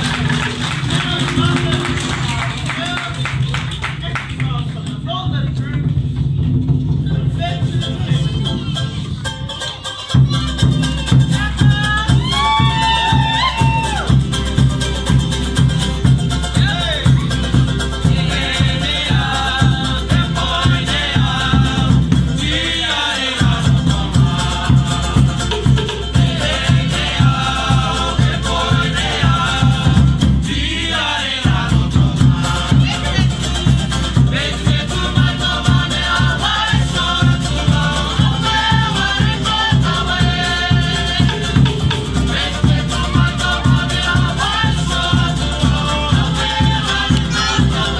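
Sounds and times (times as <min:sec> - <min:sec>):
strummed ukulele and guitar: 0:00.0 - 0:04.0, 0:07.6 - 0:47.9
voices singing: 0:00.0 - 0:04.2, 0:07.1 - 0:47.9
bass drum beat: 0:00.0 - 0:47.9.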